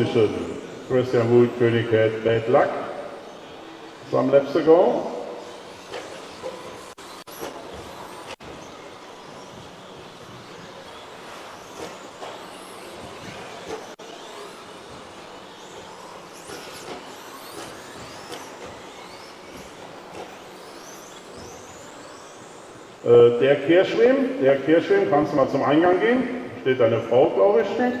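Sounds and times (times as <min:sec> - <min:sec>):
high-pitched electric motor whines: 0:00.0 - 0:28.0
steady background noise: 0:00.0 - 0:28.0.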